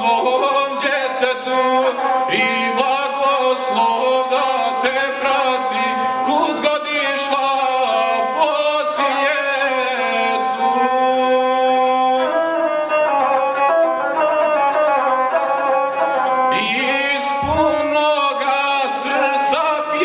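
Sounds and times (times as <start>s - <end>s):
bowed folk fiddle melody: 0.0s - 20.0s
person singing: 0.0s - 20.0s.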